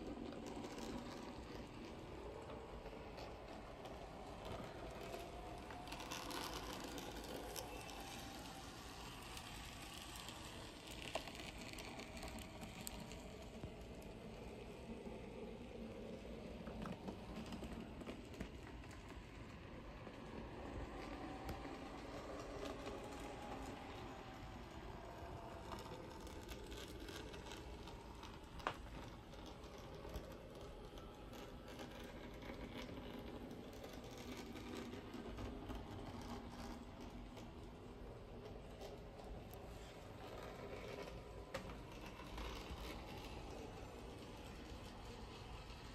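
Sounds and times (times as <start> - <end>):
light clicks of track: 0.0 - 45.9
model train whirring: 0.0 - 45.9.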